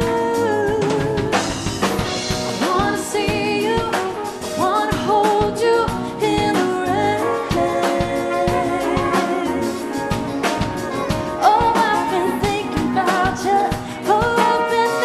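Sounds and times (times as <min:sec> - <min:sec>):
drum kit: 0:00.0 - 0:15.0
sustained backing instruments: 0:00.0 - 0:15.0.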